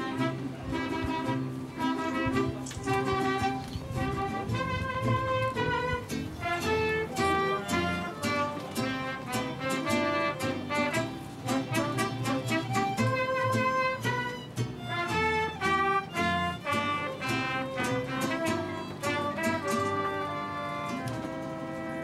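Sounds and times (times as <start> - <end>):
plucked-string accompaniment: 0.0 - 22.0
violin melody: 0.0 - 22.0.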